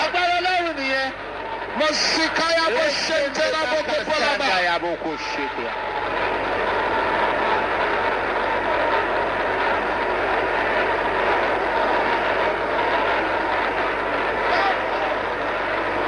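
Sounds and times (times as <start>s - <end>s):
congregation praying aloud: 0.0s - 16.0s.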